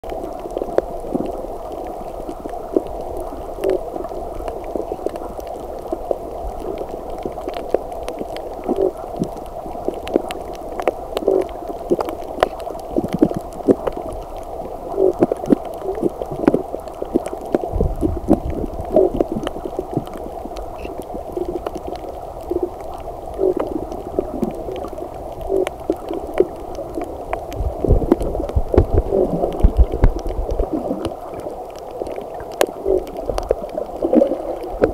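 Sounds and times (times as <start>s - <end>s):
deep water rumbles: 0.0s - 34.9s
small underwater clicks: 0.0s - 34.9s
underwater wash of water: 0.0s - 34.9s
water gurgles: 0.0s - 34.9s.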